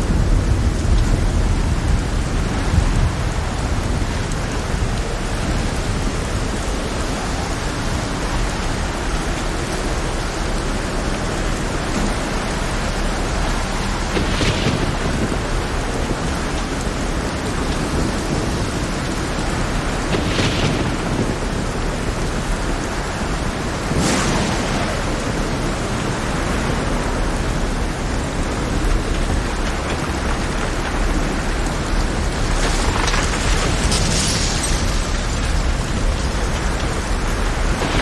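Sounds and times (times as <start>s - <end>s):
heavy rain hiss: 0.0s - 38.0s.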